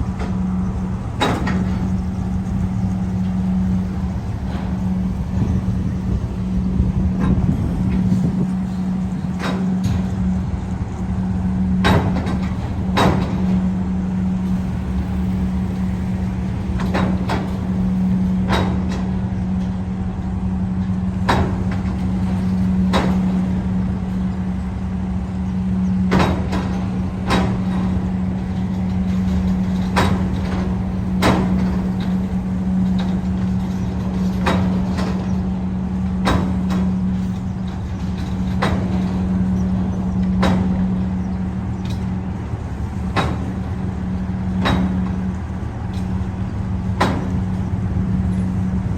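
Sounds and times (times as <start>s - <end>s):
low engine hum: 0.0s - 48.9s
tyres clunking over ramp: 0.0s - 48.9s.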